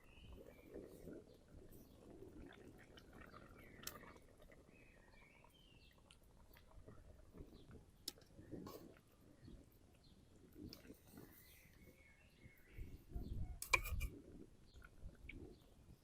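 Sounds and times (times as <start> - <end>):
faint bird chirps: 0.0 - 6.1, 9.1 - 16.0.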